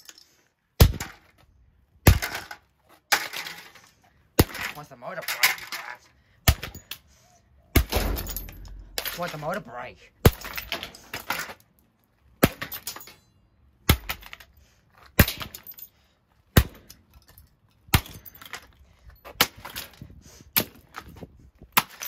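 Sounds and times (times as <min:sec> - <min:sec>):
rattle of breaking parts: 0:00.0 - 0:01.4, 0:02.1 - 0:07.0, 0:07.8 - 0:11.8, 0:12.4 - 0:16.0, 0:16.6 - 0:22.0.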